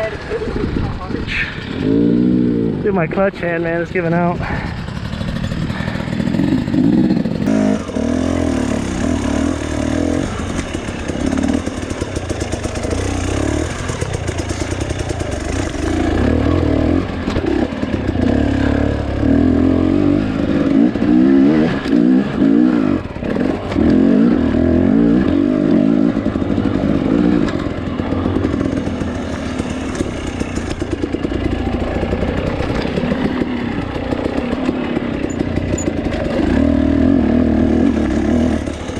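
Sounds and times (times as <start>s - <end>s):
dirt bike engine revving: 0.0s - 38.9s
clatter: 4.5s - 19.6s, 20.2s - 38.9s.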